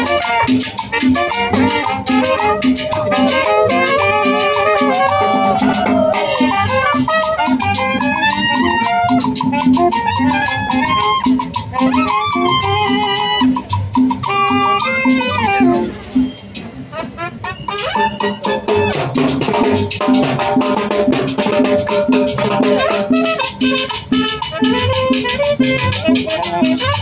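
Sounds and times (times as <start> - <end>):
steady drum beat: 0.0 - 16.9, 18.5 - 27.0
horns playing melody: 0.0 - 20.0, 21.4 - 27.0.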